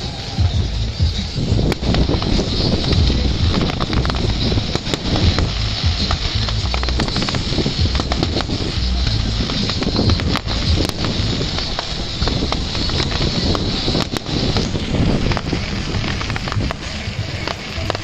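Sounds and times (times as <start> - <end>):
fireworks popping and crackling: 0.0 - 18.0
low rumble: 0.0 - 18.0.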